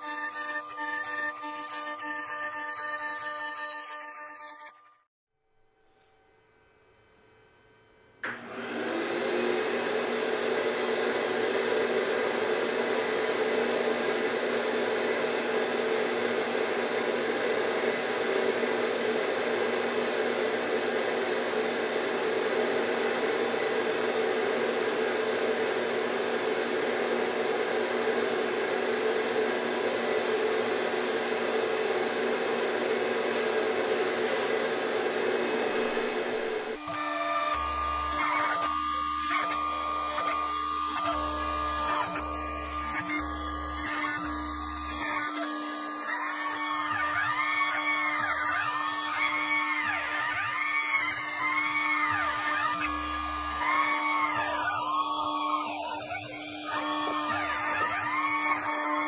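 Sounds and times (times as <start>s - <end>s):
power tool motor whine: 0.0s - 5.1s, 7.4s - 59.0s.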